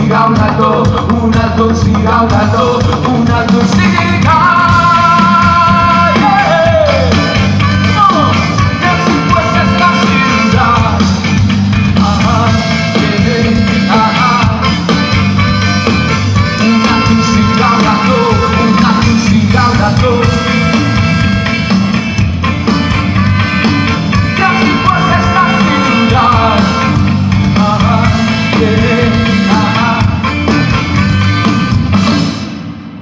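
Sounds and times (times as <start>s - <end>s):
bass guitar: 0.0s - 33.0s
drums: 0.0s - 33.0s.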